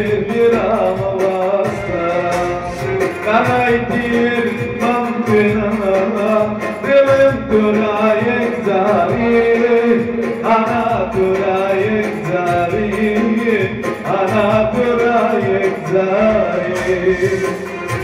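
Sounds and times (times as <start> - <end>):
instrumental backing with beat: 0.0 - 18.0
man singing into microphone: 0.0 - 18.0.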